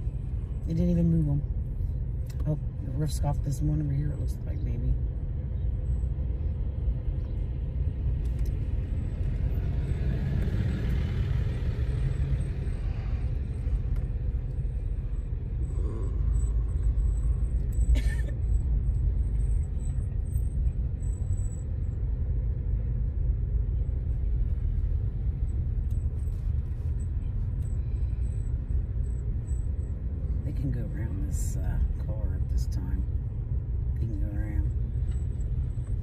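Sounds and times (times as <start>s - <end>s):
car road and engine noise: 0.0s - 36.0s.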